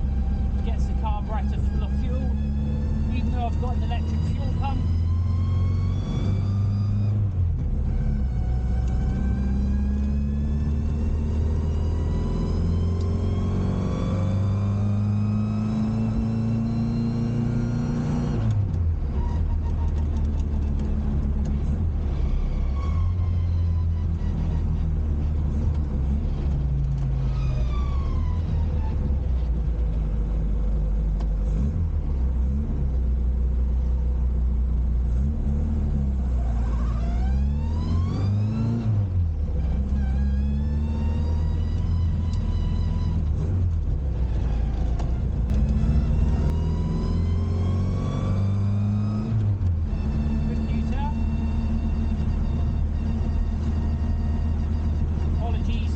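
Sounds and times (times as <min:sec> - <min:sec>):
car engine accelerating through gears: 0:00.0 - 0:55.9.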